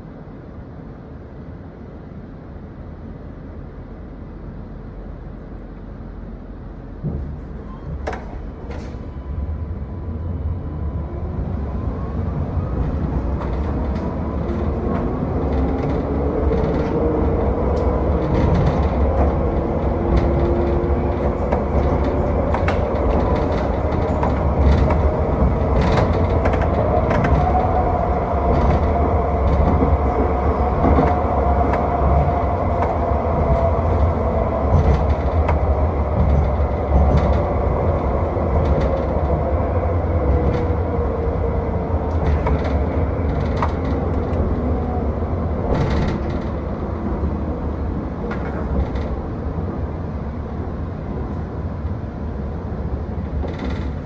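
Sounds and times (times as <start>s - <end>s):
wheels rumbling on rail: 0.0s - 54.0s
tram motor whine: 2.8s - 54.0s.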